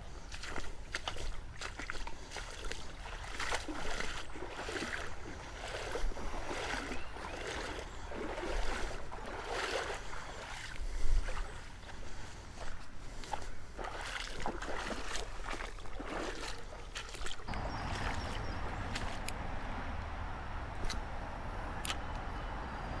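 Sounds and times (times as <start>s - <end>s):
water sloshing around wading legs: 0.0s - 22.3s
water splashes: 0.1s - 23.0s.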